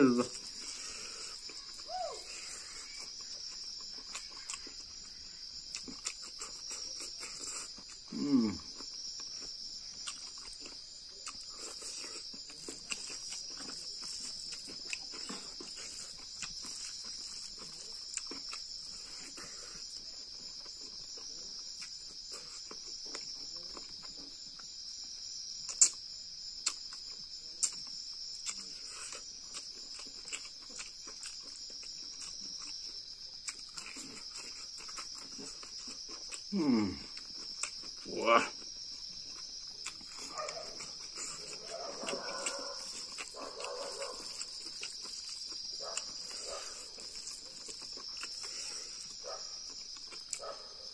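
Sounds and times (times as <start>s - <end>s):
insects trilling: 0.0s - 50.9s
man chewing and lip-smacking: 0.1s - 50.5s.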